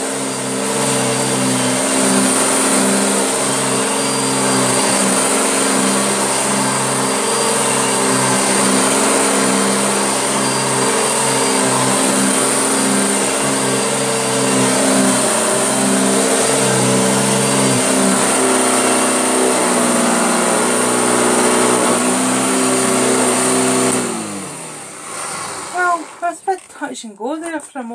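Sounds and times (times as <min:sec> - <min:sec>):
vacuum cleaner running: 0:00.0 - 0:26.6.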